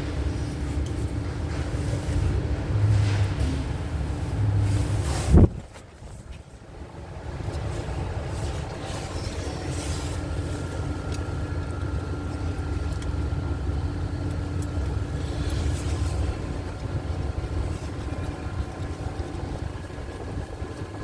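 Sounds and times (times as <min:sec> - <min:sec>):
large engine rumbling: 0:00.0 - 0:21.0.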